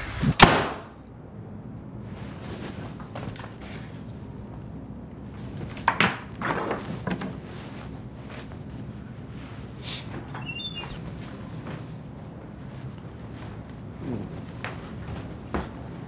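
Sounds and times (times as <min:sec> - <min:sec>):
knocks and rustles of handling: 0:02.1 - 0:04.6, 0:05.2 - 0:16.0.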